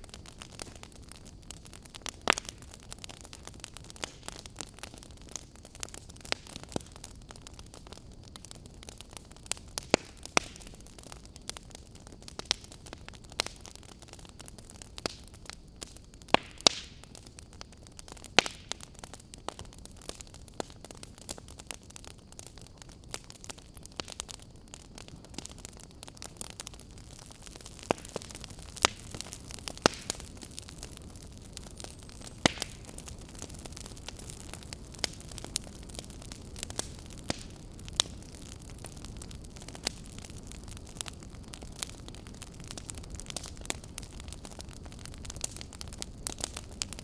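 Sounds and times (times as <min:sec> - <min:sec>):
campfire hissing: 0:00.0 - 0:47.0
wood crackling and popping: 0:00.0 - 0:47.0.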